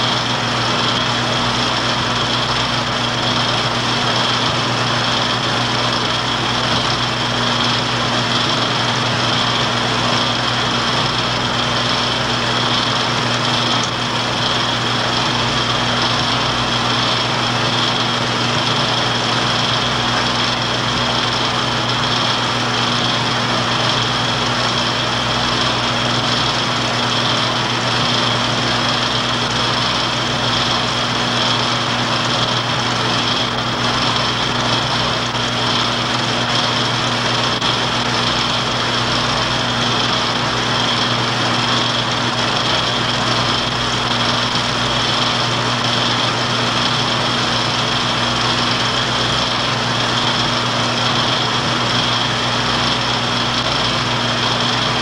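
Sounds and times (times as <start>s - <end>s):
film projector running: 0.0s - 55.0s.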